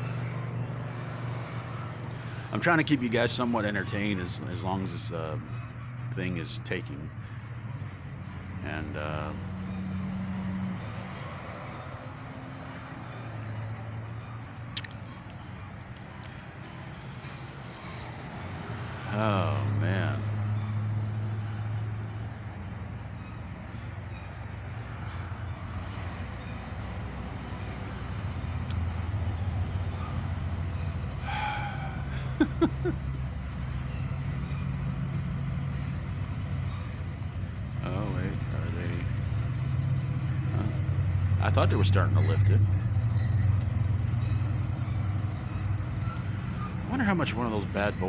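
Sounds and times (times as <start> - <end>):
cars driving past: 0.0 - 48.0
road traffic passing: 0.0 - 48.0
truck engine low rumble: 0.0 - 48.0.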